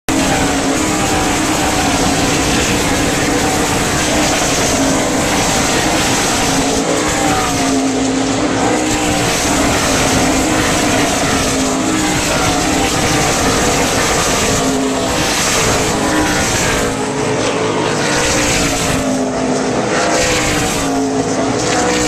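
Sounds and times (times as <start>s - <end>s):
race cars engines droning: 0.0s - 22.0s
race cars passing: 0.1s - 22.0s.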